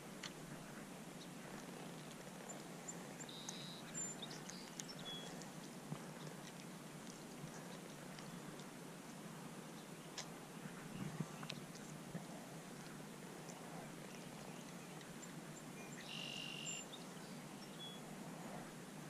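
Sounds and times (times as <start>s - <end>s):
faint birds chirping: 0.0s - 19.0s
low outdoor background noise: 0.0s - 19.0s.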